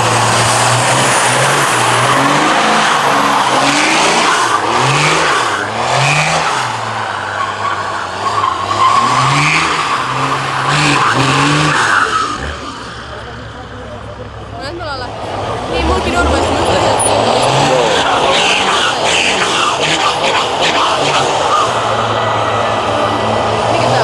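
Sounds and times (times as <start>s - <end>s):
car engine revving: 0.0s - 24.0s
tyres squealing: 0.0s - 24.0s.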